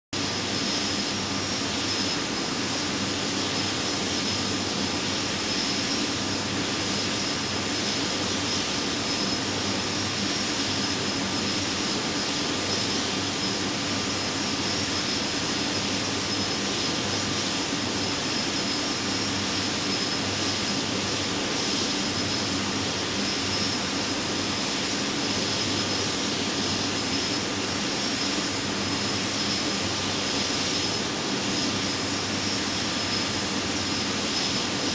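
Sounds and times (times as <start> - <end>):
jet engines and airflow in cabin: 0.2 - 34.9.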